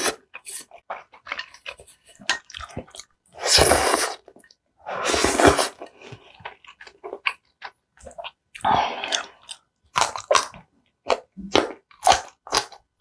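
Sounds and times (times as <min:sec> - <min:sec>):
wet chewing and mouth clicks: 0:00.0 - 0:04.6, 0:05.3 - 0:13.0.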